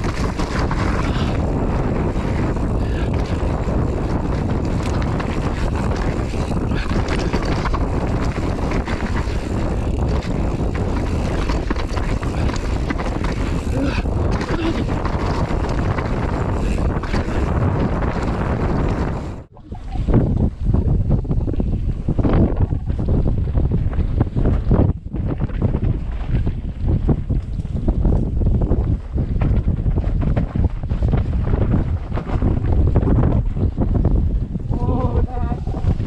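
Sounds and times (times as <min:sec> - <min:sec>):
bike rattling and clicking: 0:00.0 - 0:36.0
bike tyres rumbling on gravel: 0:00.0 - 0:36.0
wind buffeting microphone: 0:00.0 - 0:36.0.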